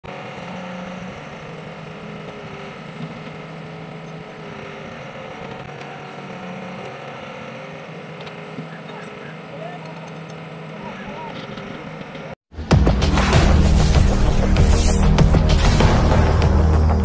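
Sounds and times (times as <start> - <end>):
excavator diesel engine running: 0.0 - 17.0
hydraulics humming: 0.0 - 17.0.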